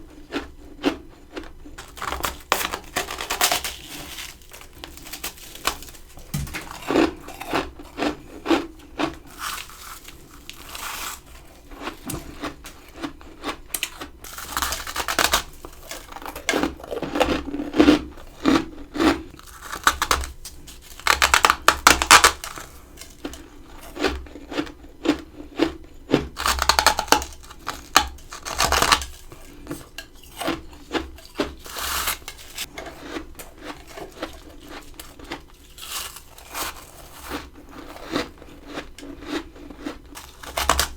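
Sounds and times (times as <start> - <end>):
chewing crunchy frost: 0.0 - 40.9.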